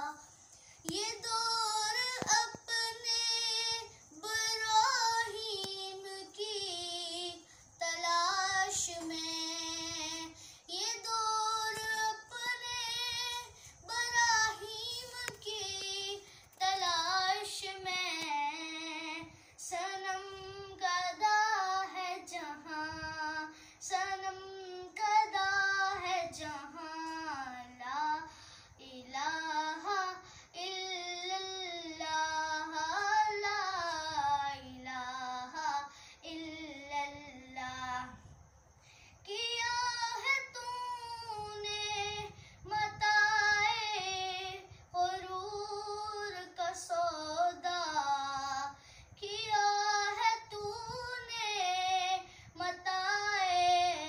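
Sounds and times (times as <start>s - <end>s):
boy singing unaccompanied: 0.0s - 38.6s, 39.2s - 54.0s.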